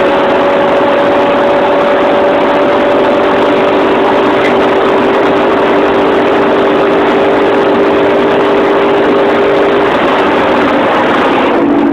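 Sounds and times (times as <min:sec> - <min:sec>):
car engine running hard: 0:00.0 - 0:11.9
road and wind noise: 0:00.0 - 0:11.9.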